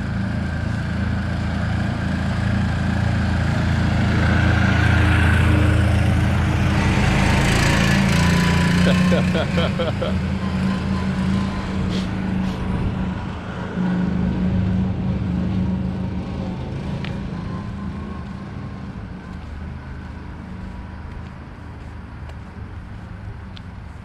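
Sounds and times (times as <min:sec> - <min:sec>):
street traffic: 0:00.0 - 0:24.0
vehicle engine running: 0:00.0 - 0:24.0.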